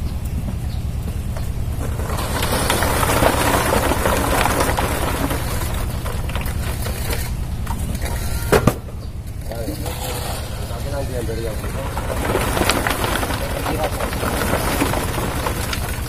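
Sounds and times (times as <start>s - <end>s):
engine idling: 0.0s - 16.0s
wet concrete scraped and scooped: 1.8s - 8.5s, 9.5s - 16.0s.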